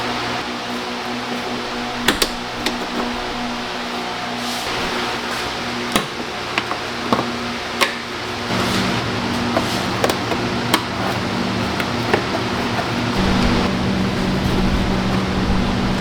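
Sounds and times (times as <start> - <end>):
steady low hum: 0.0 - 5.9, 8.3 - 16.0.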